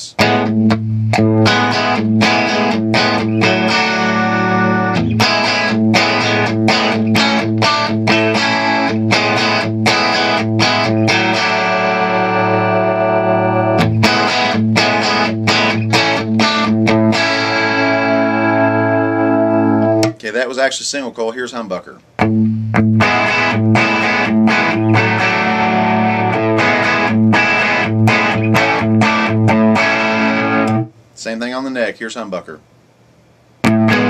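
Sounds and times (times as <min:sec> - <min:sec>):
electric guitar chords: 0:00.0 - 0:20.2, 0:22.2 - 0:31.0, 0:33.6 - 0:34.0.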